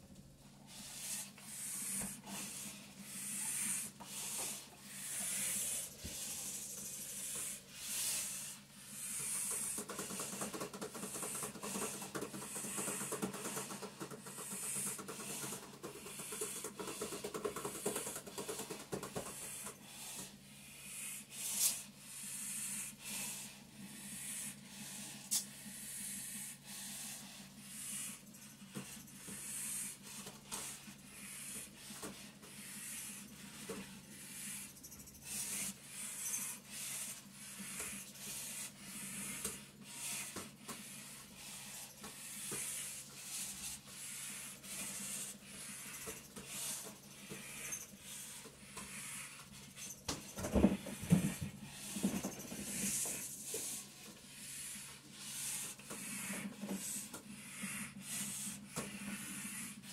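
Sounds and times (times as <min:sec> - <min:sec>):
heavy rhythmic breathing through mask: 0:00.0 - 0:59.9
vibration plate motor hum: 0:00.0 - 0:59.9.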